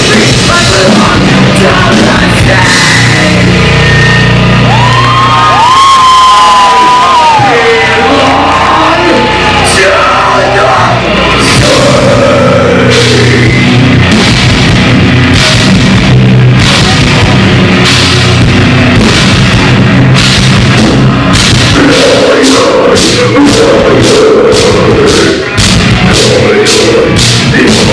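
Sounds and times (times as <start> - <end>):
distorted guitars and bass: 0.0 - 27.9
pounding drum kit: 0.0 - 27.9.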